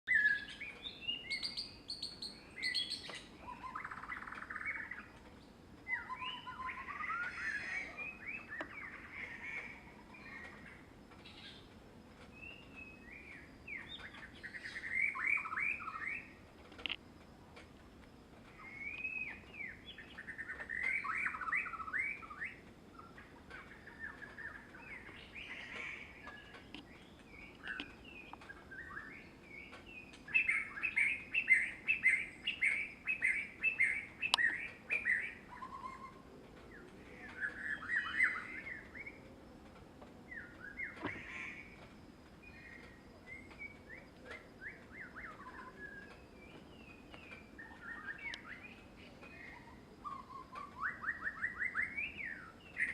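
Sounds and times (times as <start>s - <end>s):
birds chirping and trilling: 0.1s - 17.0s, 18.4s - 52.9s.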